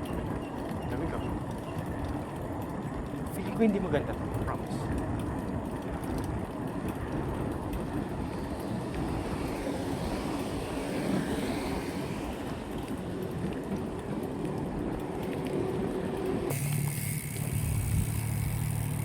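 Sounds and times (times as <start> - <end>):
bicycle tyre and road noise: 0.0 - 19.0
wind buffeting microphone: 0.0 - 19.0.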